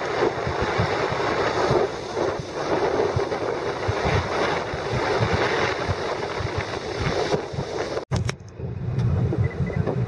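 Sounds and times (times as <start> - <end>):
boat engine rumble: 0.0 - 10.0
wind rushing over microphone: 0.0 - 10.0.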